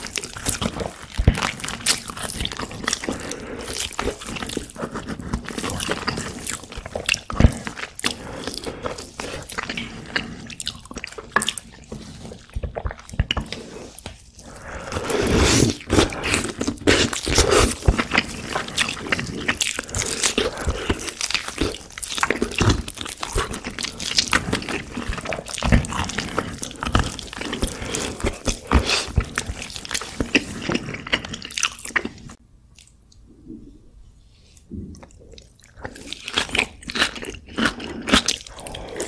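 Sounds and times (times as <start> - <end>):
chewing meat off the bone: 0.0 - 14.0, 15.0 - 32.9, 35.0 - 39.0.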